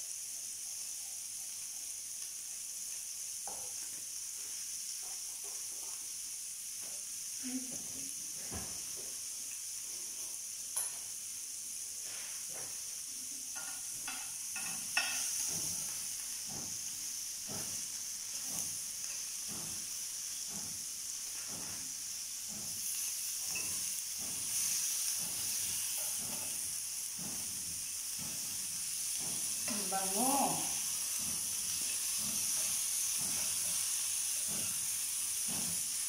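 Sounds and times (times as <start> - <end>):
skewers sizzling in grill pan: 0.0 - 36.0.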